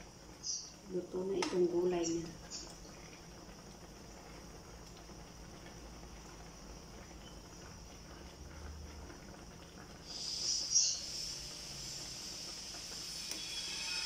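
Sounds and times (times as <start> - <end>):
gas burner hiss: 0.0 - 14.0
soup simmering and bubbling: 0.0 - 14.0.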